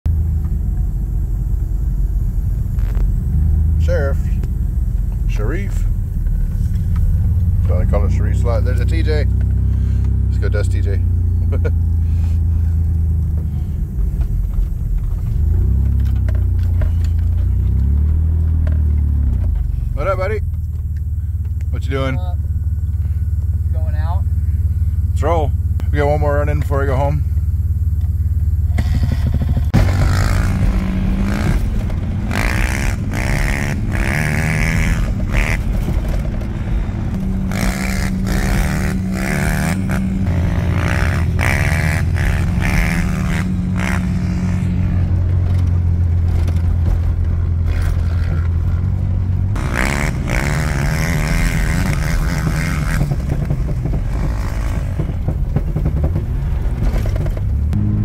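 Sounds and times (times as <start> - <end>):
off-road vehicle engine revving: 0.1 - 58.0.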